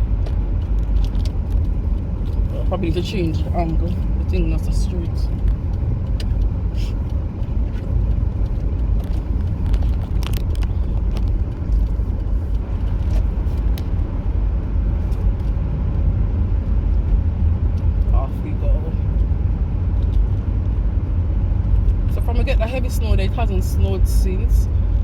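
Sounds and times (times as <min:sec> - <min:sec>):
car cabin road noise: 0:00.0 - 0:25.0.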